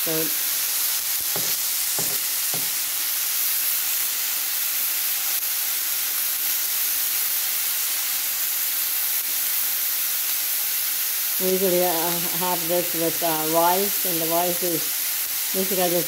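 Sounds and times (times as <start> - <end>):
chicken frying in a pan: 0.0 - 16.0.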